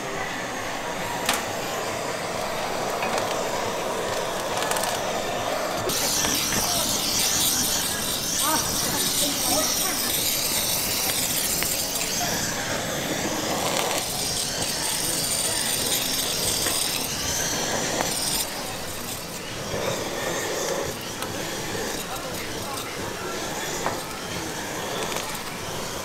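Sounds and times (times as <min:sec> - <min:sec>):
food sizzling: 0:00.0 - 0:26.0.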